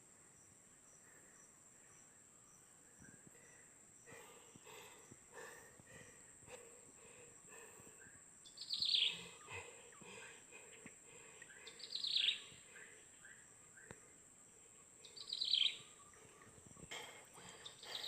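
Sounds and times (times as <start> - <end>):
high-pitched insect hum: 0.4 - 18.0.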